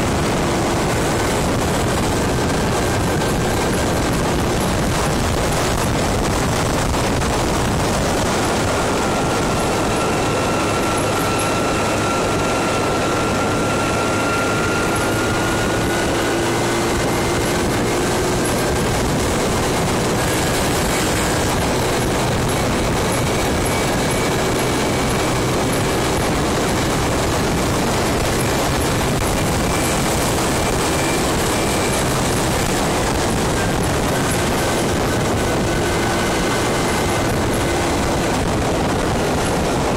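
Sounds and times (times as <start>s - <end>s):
faint scooter engine whine: 0.0s - 39.9s
wind and road noise: 0.0s - 39.9s.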